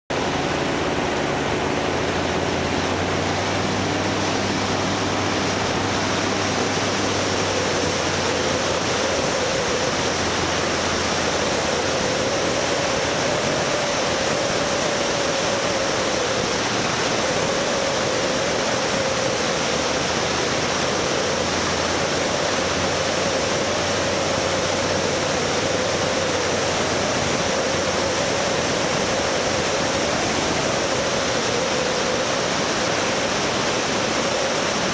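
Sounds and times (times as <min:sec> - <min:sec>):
steady rushing noise: 0:00.1 - 0:34.9
vehicle engine droning: 0:00.1 - 0:34.9.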